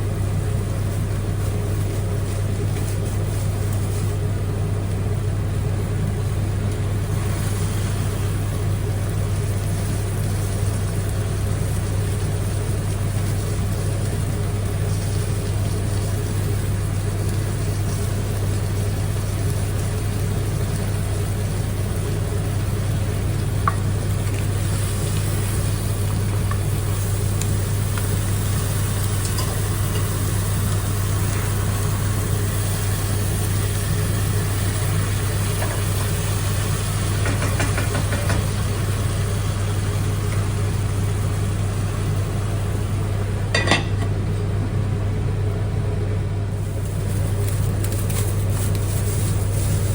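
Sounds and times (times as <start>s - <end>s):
machine hum: 0.0s - 49.9s.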